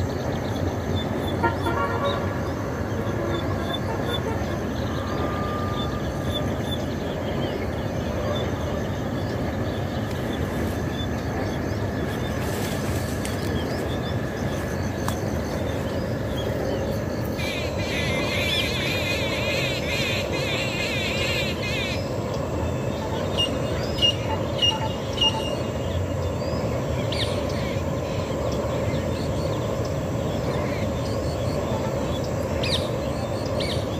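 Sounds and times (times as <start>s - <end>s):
birds calling: 0.0s - 33.9s
low outdoor rumble: 0.0s - 33.9s.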